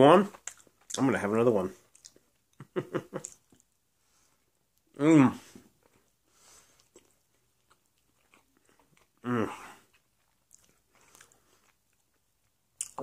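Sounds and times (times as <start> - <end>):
quiet chewing of cookie: 0.3 - 1.1, 1.7 - 13.0.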